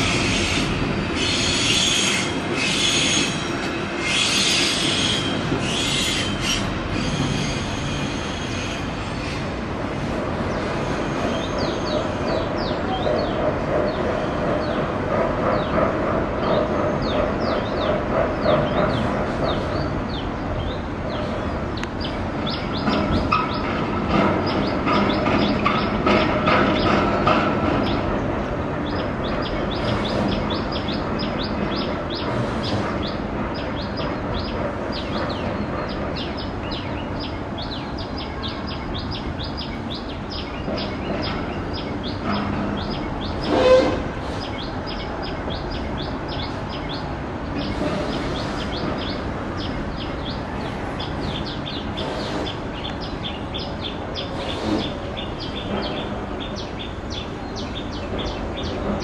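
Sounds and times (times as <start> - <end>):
distant train rumble: 0.0 - 59.0.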